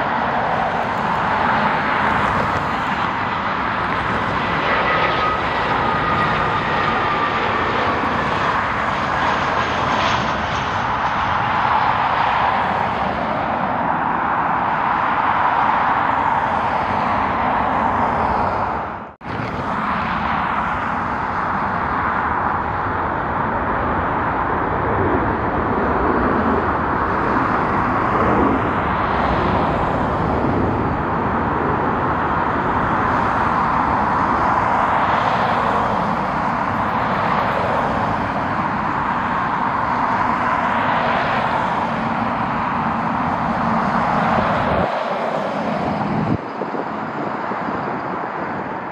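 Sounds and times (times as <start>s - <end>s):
jet airliner engines running: 0.0s - 48.9s.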